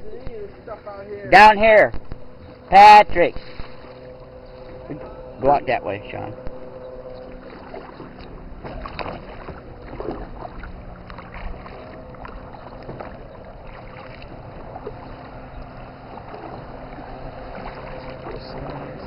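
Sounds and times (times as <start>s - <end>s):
paddles splashing in water: 2.0s - 5.3s, 6.5s - 19.0s.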